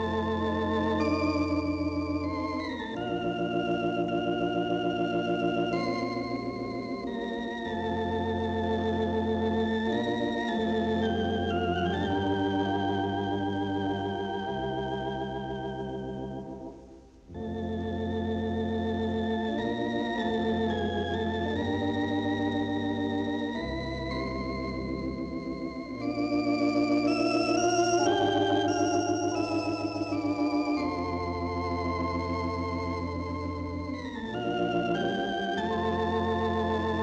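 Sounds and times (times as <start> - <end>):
organ chords with tremolo: 0.0 - 37.0.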